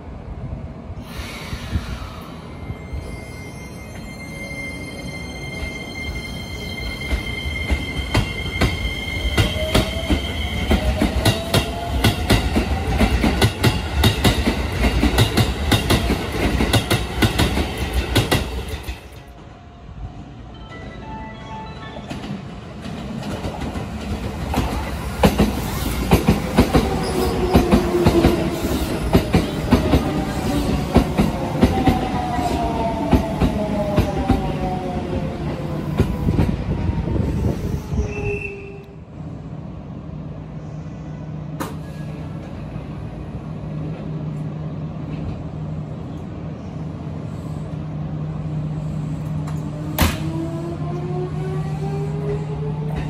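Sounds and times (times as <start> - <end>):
low hum of standing train: 0.0 - 53.0.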